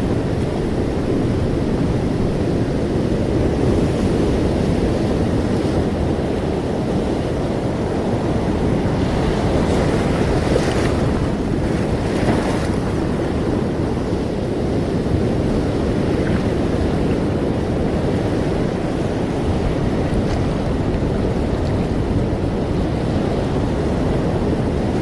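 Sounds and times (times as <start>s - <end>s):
ocean waves and surf: 0.0s - 25.0s
wind on microphone: 0.0s - 25.0s.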